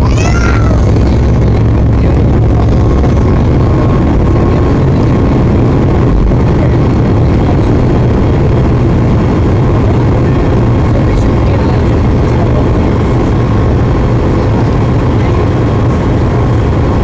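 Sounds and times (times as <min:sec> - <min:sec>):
airliner cabin engine drone: 0:00.0 - 0:17.0
rushing air: 0:00.0 - 0:17.0.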